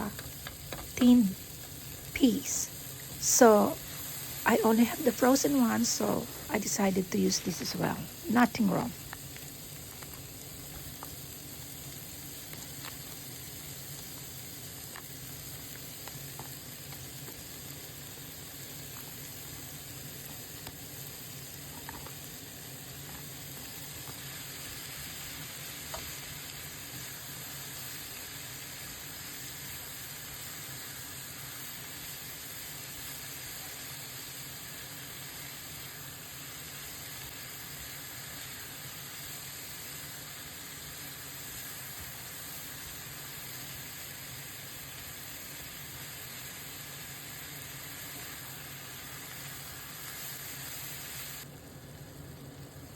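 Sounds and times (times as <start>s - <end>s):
food sizzling in a frying pan: 0.0s - 52.9s.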